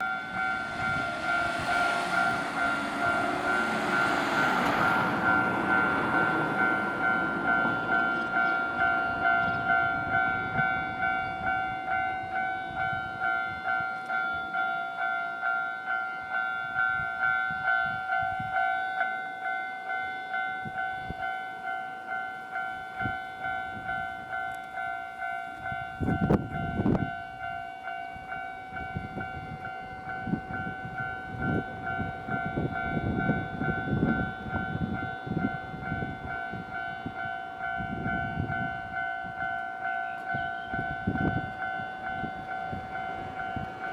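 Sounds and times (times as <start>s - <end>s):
level crossing warning bell: 0.0s - 43.9s
train running over crossing: 0.0s - 43.9s.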